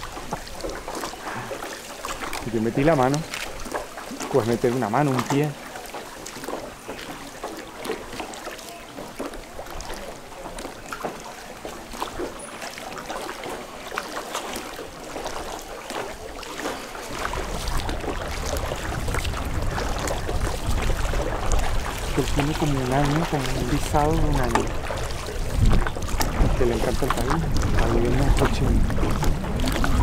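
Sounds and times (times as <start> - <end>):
water splashing against boat: 0.0 - 30.0.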